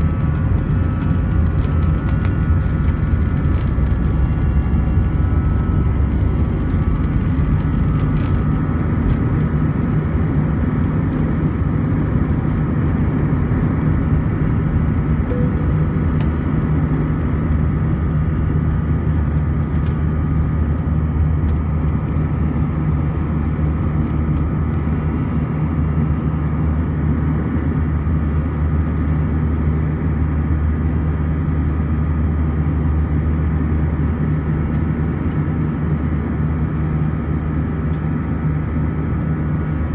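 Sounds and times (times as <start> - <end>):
jet engines drone: 0.0 - 39.9
wheels rumbling on runway: 0.0 - 39.9.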